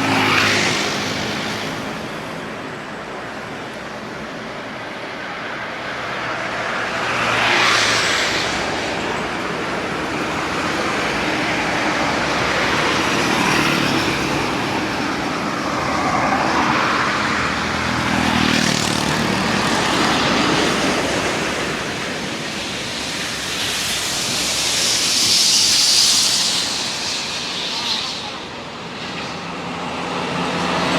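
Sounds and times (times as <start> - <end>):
background traffic: 0.0 - 30.9
vehicles passing: 0.0 - 30.9.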